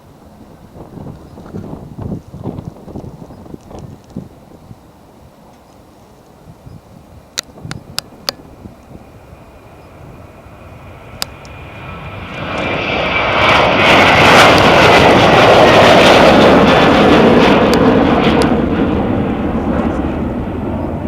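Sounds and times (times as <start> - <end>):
airplane engine roaring: 0.0 - 21.0.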